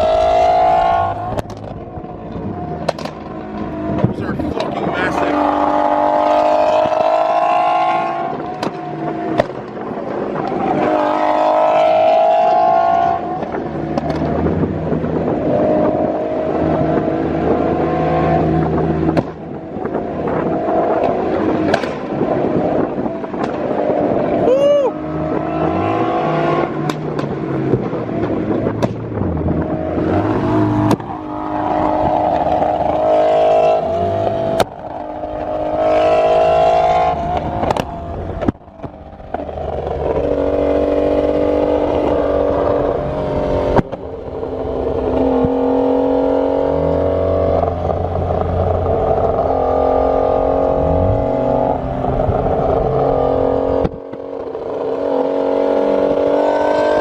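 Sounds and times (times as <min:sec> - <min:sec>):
supercar engines revving: 0:00.0 - 0:57.0.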